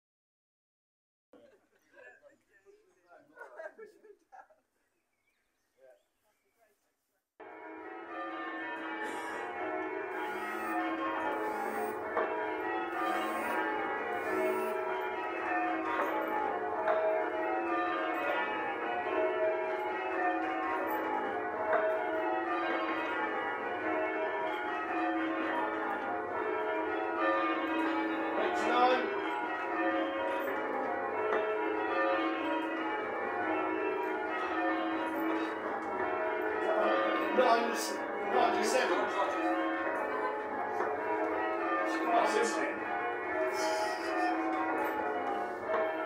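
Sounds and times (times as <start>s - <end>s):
church bells change-ringing: 7.4s - 46.0s.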